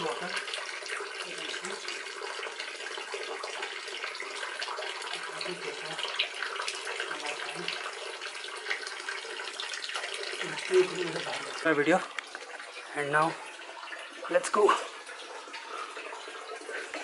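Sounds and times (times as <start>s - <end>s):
water flowing over rock: 0.0s - 17.0s.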